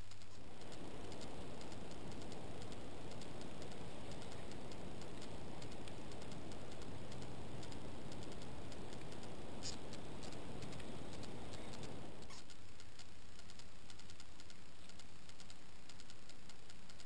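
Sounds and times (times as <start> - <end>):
faint ticks: 0.0 - 17.0
microphone hiss: 0.0 - 17.0.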